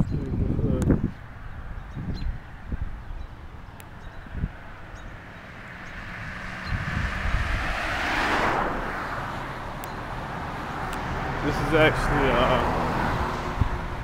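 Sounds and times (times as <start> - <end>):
vehicle passing: 1.2 - 14.0.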